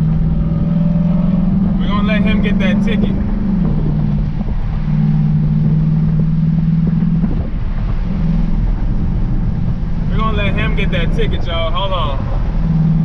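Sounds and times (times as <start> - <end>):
engine drone inside car: 0.0 - 13.0.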